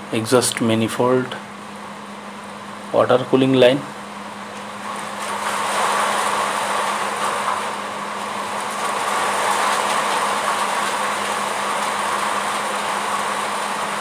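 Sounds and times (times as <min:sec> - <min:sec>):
engine room machinery drone: 0:00.0 - 0:14.0.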